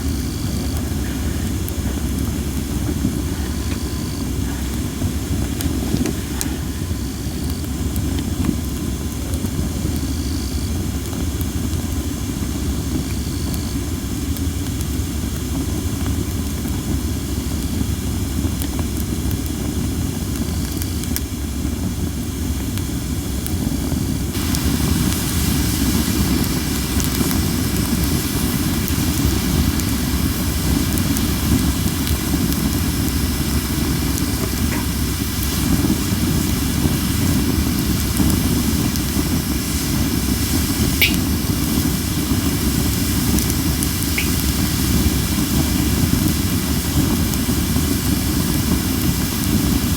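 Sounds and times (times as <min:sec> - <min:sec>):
campfire hissing and crackling: 0:00.0 - 0:49.9.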